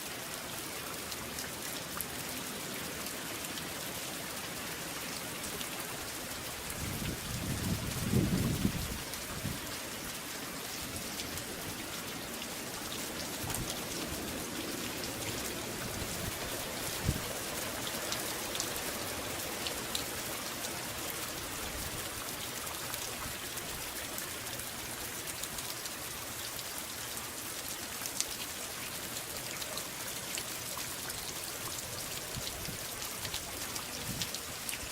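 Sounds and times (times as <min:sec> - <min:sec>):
rain pouring down: 0:00.0 - 0:34.9.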